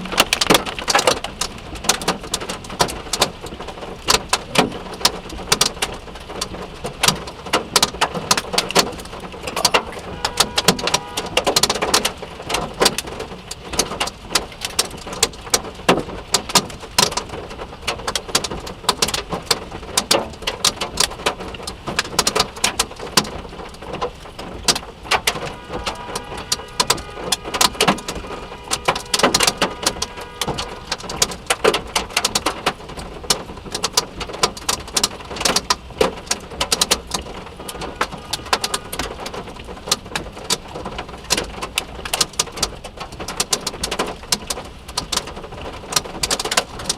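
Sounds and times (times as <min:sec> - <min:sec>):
hailstones clattering on a car: 0:00.0 - 0:46.9
rain rushing: 0:00.0 - 0:46.9.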